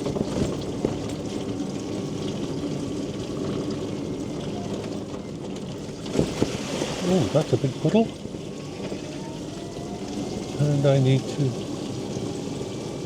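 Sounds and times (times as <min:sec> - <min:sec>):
tyre noise on wet road: 0:00.0 - 0:13.0.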